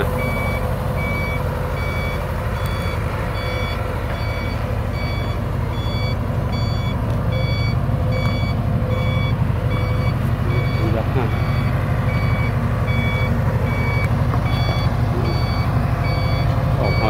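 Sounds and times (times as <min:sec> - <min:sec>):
diesel tractor engine running: 0:00.0 - 0:17.0
electronic warning beeper: 0:00.0 - 0:17.0.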